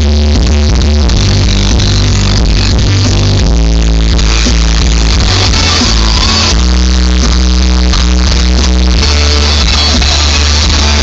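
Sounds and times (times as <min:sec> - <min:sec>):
electronic dance music with booming bass: 0:00.0 - 0:11.0.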